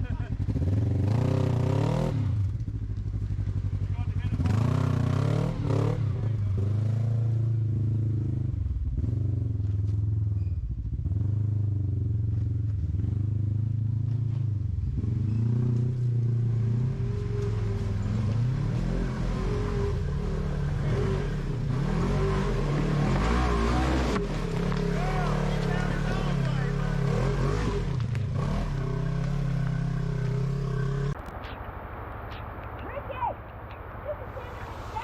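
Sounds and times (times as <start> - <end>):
off-road vehicle engine revving: 0.0 - 31.2.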